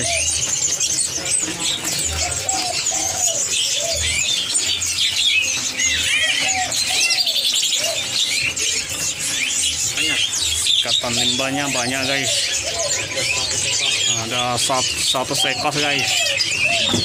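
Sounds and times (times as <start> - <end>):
songbirds chirping and twittering: 0.0 - 17.0.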